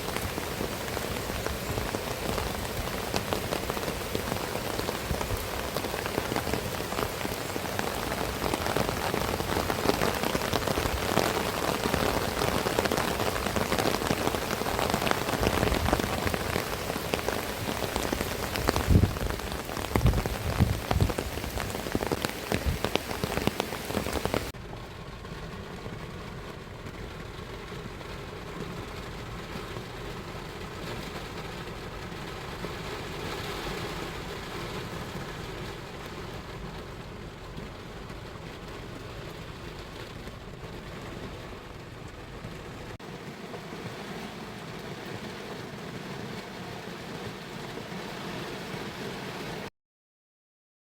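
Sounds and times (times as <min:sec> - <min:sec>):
heavy rain falling: 0:00.0 - 0:49.7.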